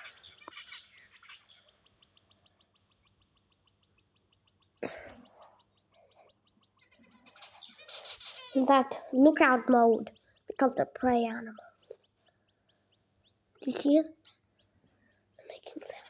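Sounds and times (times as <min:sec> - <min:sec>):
quails chirping: 0:00.0 - 0:16.0.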